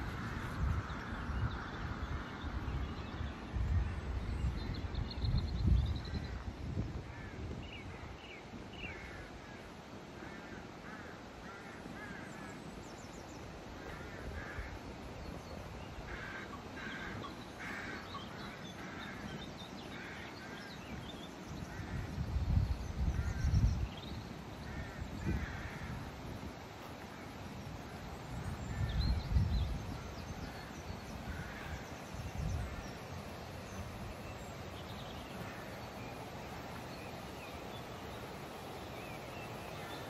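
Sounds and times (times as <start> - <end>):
birds calling: 0.0 - 40.0.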